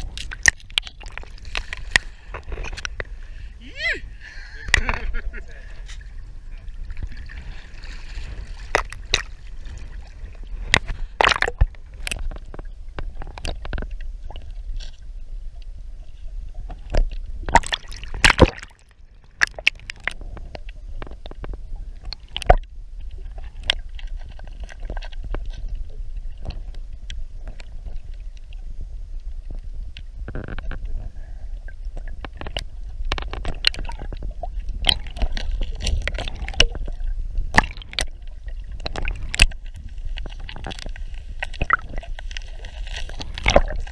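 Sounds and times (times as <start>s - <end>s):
water sloshing and splashing: 0.0s - 3.8s, 4.4s - 28.6s, 29.4s - 43.9s.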